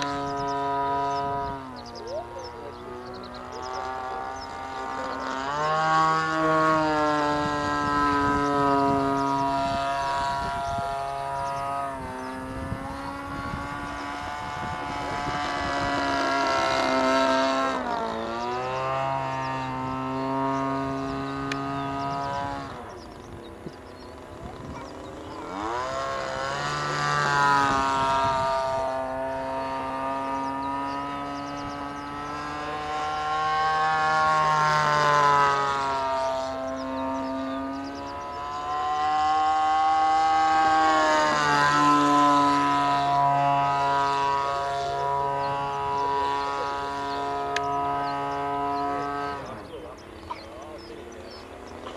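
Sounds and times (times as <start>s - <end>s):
model plane engine buzzing: 0.0s - 51.9s.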